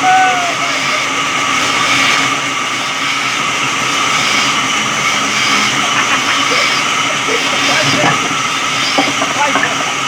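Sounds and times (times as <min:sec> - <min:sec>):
electric saw cutting log: 0:00.0 - 0:10.0.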